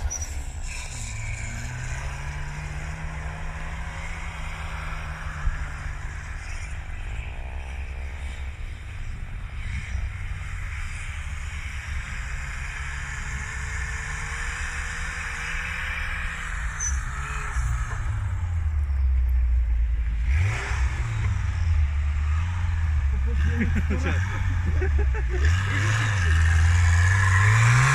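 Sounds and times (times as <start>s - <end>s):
turbocharged car engine revving: 0.0s - 19.0s, 19.8s - 27.9s.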